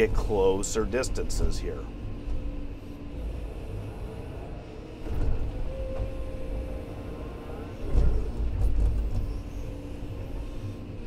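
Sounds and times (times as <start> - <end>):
excavator diesel engine under load: 0.0 - 11.0
steady whine: 0.0 - 11.0.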